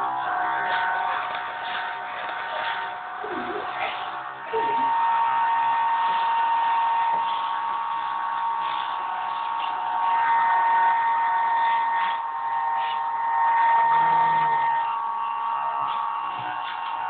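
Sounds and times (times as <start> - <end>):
high-pitched whine: 0.0 - 17.0
model plane motor whirring: 0.0 - 17.0.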